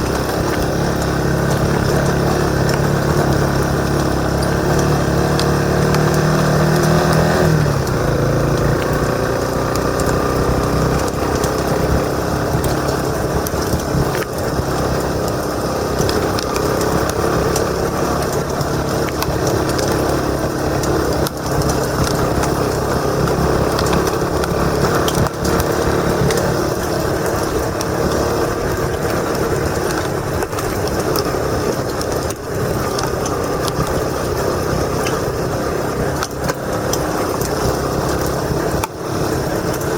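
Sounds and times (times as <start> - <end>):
motorcycle engine running: 0.0 - 39.9
small clicks and knocks: 0.0 - 39.9.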